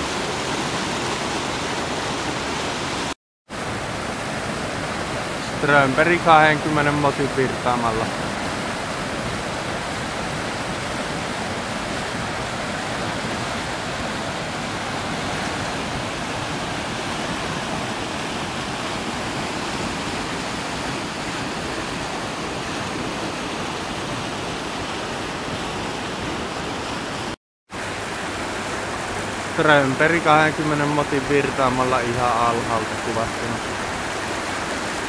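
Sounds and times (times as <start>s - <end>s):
whitewater rushing over boulders: 0.0s - 35.0s.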